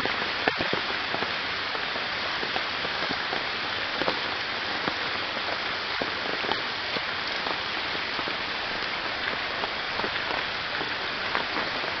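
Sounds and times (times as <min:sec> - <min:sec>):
rain falling through leaves: 0:00.0 - 0:12.0
raindrops striking close by: 0:00.0 - 0:12.0.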